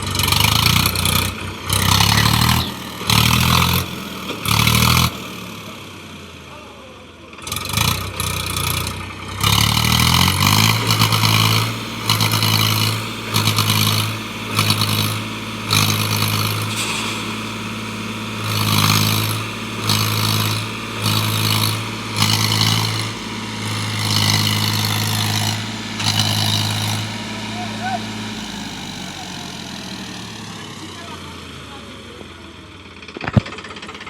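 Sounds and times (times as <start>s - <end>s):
tractor engine straining: 0.0s - 34.0s.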